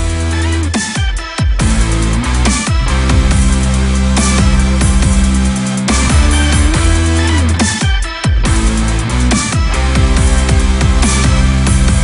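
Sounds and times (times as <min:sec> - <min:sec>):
dubstep music with heavy bass: 0:00.0 - 0:12.0.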